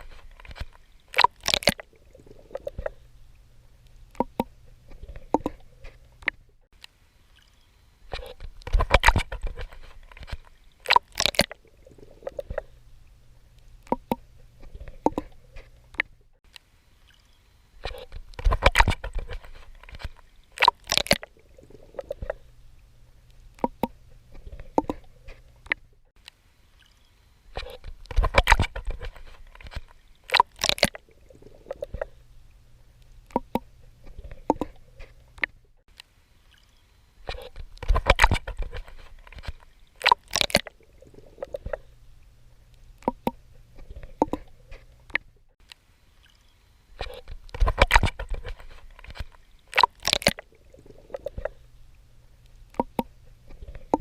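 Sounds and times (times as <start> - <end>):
water splashing from swimming: 0.0 - 6.4, 7.2 - 16.1, 16.9 - 25.8, 26.6 - 35.6, 36.3 - 45.3, 46.0 - 54.0
low steady hum: 0.0 - 54.0
small water drips: 0.0 - 54.0.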